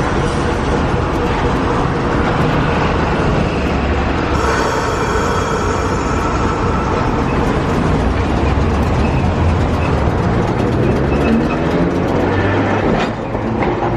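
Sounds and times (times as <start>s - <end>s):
streetcar rumbling on rails: 0.0s - 13.9s.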